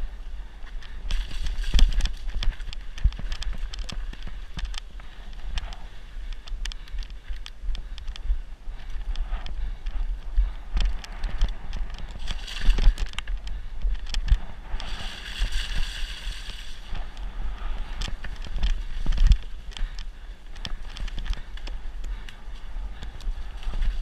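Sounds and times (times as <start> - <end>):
bike rattling over bumps: 0.0 - 24.0
wind buffeting microphone: 0.0 - 24.0.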